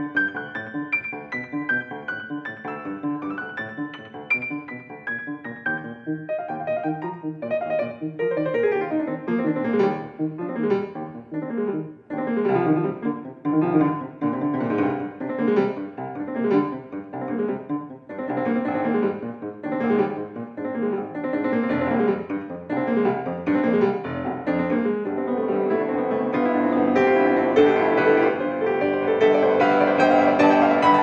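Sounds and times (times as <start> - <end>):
solo grand piano piece: 0.0 - 31.0.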